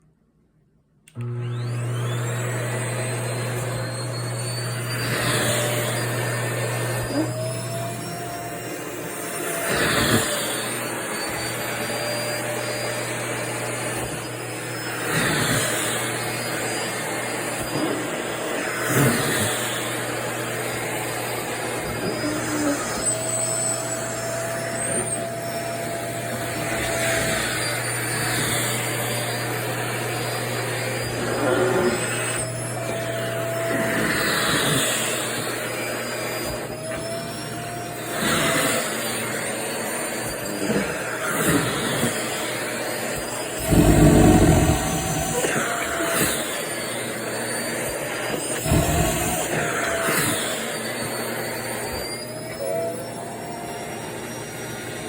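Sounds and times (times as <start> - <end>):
vacuum cleaner running: 1.1 - 55.0.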